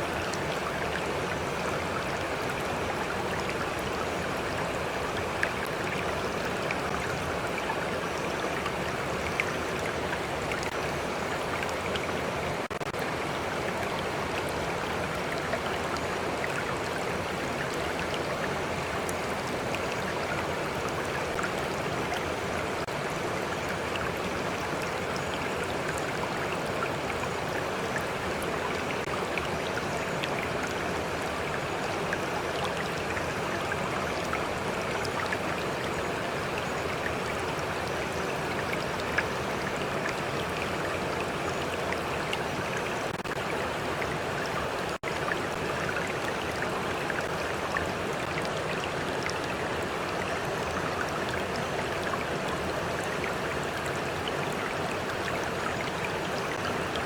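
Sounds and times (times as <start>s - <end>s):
faint water splashes and drips: 0.0s - 57.0s
stream flowing: 0.0s - 57.0s.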